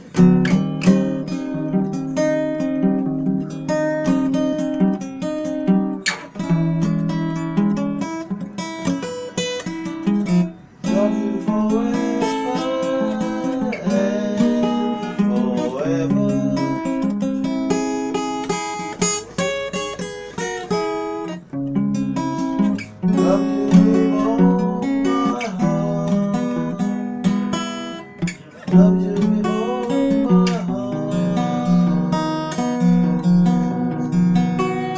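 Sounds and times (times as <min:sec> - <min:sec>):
instrumental music: 0:00.0 - 0:34.9.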